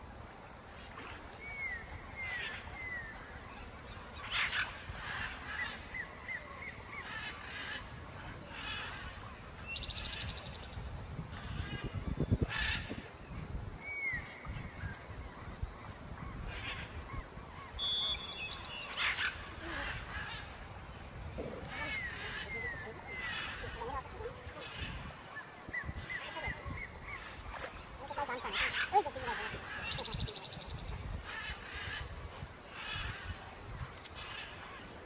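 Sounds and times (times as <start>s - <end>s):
birds chirping and trilling: 0.6s - 35.0s.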